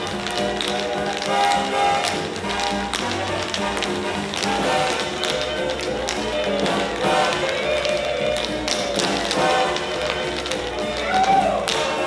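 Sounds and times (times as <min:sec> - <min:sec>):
backing music: 0:00.0 - 0:12.0
tap shoes clicking on stage: 0:00.0 - 0:12.0.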